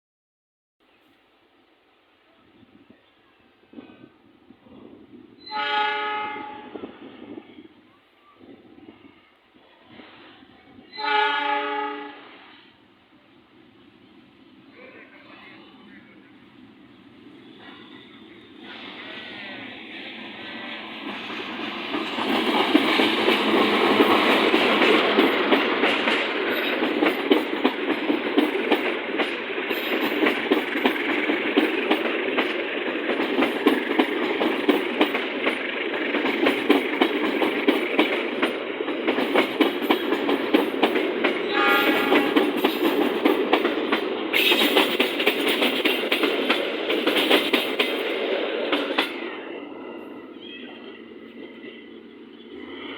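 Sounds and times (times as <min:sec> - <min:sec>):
passenger train passing: 0:01.5 - 0:52.9.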